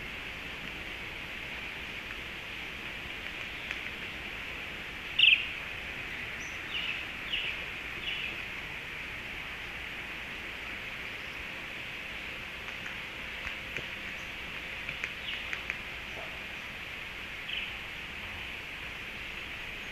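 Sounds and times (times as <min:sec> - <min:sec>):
steady high hiss: 0:00.0 - 0:19.9.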